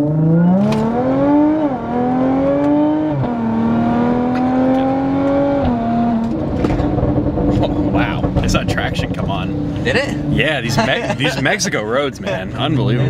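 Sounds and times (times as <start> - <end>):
automatic gear upshifts: 0.0 - 13.0
car engine at full throttle: 0.0 - 13.0.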